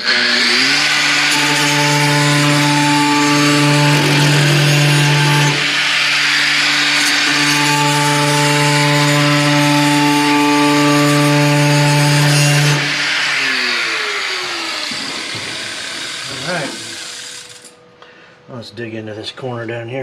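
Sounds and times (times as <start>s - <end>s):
power tool grinding metal: 0.0s - 17.8s.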